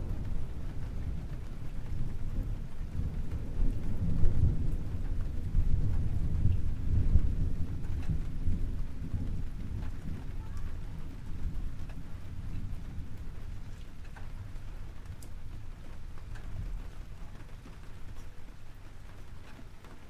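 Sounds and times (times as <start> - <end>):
thunder rumbling: 0.0 - 19.8
steady rain: 0.0 - 20.0.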